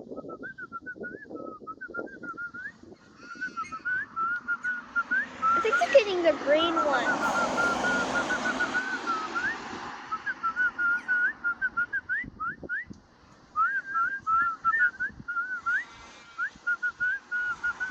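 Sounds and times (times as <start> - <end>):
person whistling: 0.0 - 12.9, 13.6 - 17.9.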